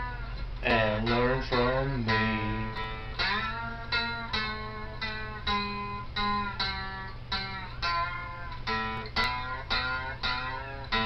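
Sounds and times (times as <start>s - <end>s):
slide guitar notes: 0.0s - 11.0s.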